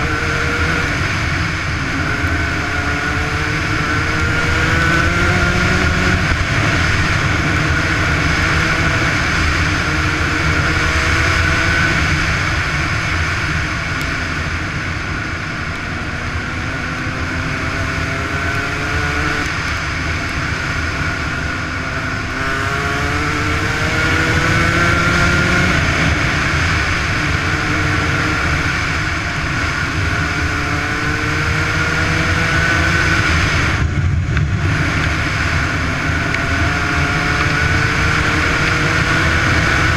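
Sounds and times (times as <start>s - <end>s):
motocross engine revving: 0.0s - 13.4s, 15.7s - 19.7s, 20.5s - 33.8s, 34.6s - 39.9s
wind noise on microphone: 0.0s - 39.9s.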